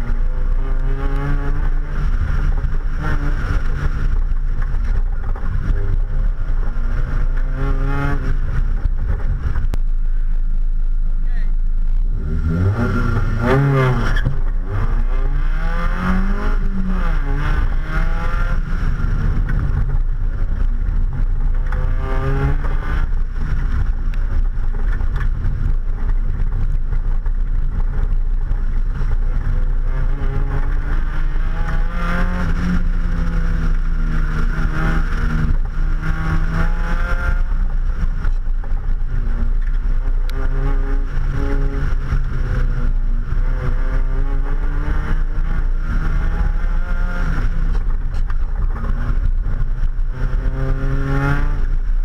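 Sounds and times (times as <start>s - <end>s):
car engine revving: 0.0s - 52.0s
steady low rumble: 0.0s - 52.0s.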